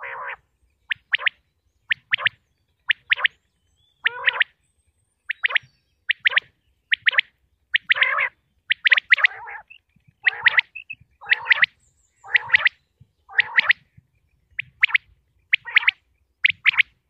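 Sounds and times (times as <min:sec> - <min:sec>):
quail calling: 0:00.0 - 0:03.4, 0:04.0 - 0:04.6, 0:05.3 - 0:13.9, 0:14.6 - 0:17.0.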